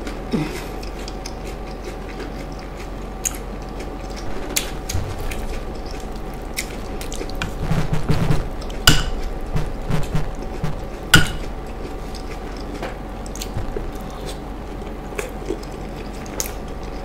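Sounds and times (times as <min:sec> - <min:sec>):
wet chewing: 0:00.0 - 0:07.5, 0:10.2 - 0:17.0
faint steady hum: 0:00.0 - 0:17.0.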